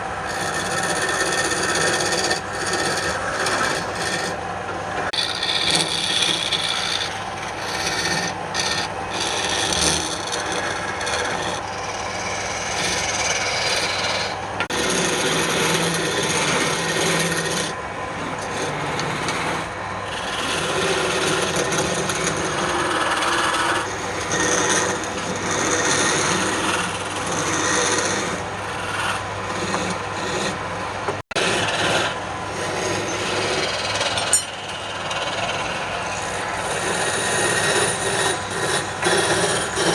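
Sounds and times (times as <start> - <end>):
tool scraping spinning wood: 0.0 - 39.9
wood lathe humming: 0.0 - 39.9.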